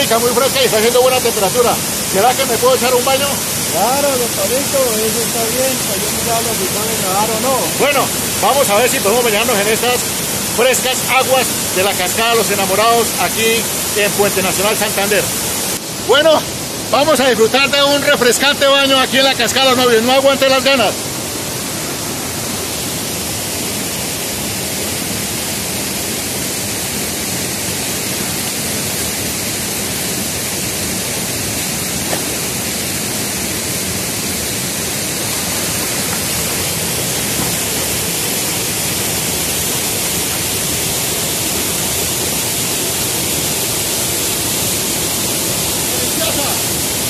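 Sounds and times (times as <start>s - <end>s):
waterfall rushing into pool: 0.0s - 47.0s.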